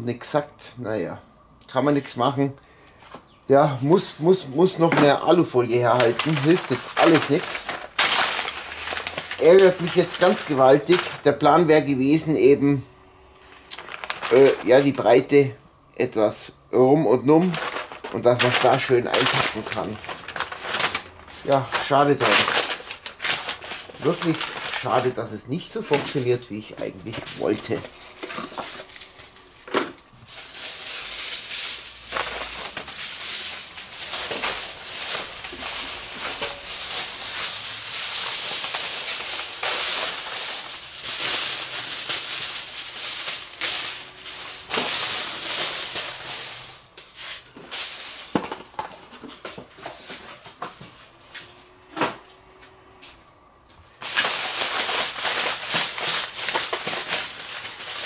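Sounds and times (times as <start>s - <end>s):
aluminium foil crinkling: 3.9s - 11.8s, 13.5s - 15.2s, 17.2s - 50.7s, 54.0s - 58.0s.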